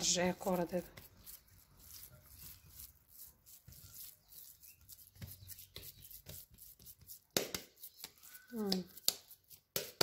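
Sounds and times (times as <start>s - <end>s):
hands rubbing dough: 0.0s - 10.0s.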